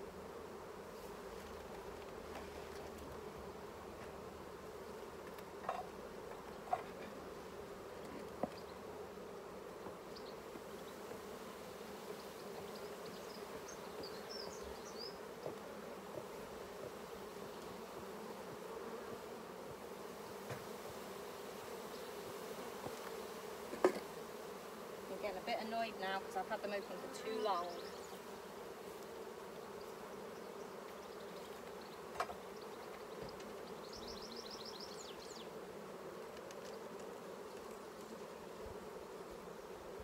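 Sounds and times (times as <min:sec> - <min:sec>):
honeybees humming: 0:00.0 - 0:40.0.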